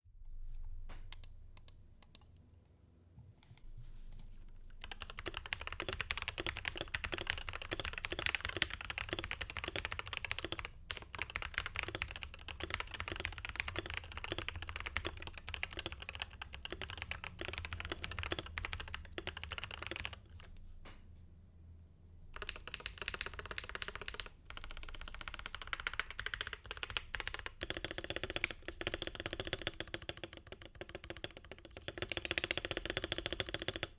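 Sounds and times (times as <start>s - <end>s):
typing on keyboard: 4.2s - 20.5s, 22.4s - 33.9s.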